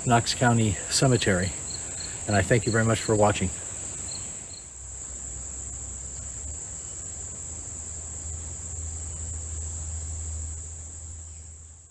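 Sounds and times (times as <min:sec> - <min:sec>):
insect trill: 0:00.0 - 0:11.9.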